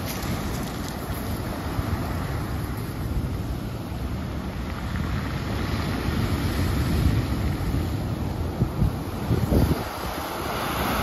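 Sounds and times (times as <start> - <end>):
ocean surf breaking on rocks: 0.0 - 11.0
wind rumbling on microphone: 0.0 - 11.0.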